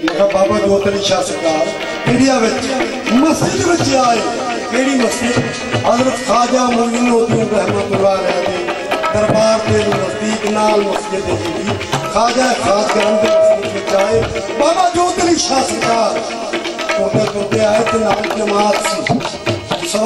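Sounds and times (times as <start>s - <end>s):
wavering sliding melody: 0.0s - 19.8s
tabla drumming: 0.0s - 20.0s.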